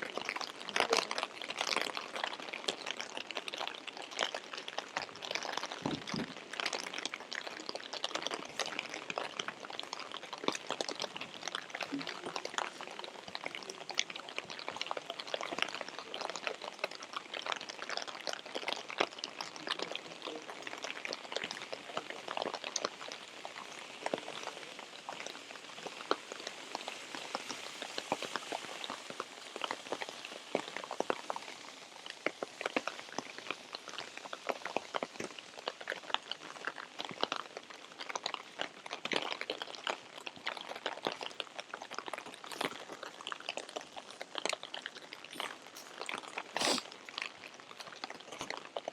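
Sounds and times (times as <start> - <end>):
rain falling: 0.0 - 48.9
raindrops ticking: 0.0 - 48.9.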